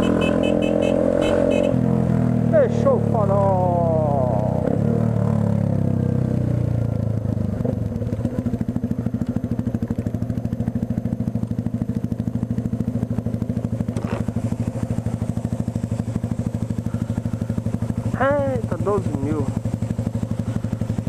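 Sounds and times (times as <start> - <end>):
motorcycle engine idling: 0.0 - 1.8, 5.2 - 21.0.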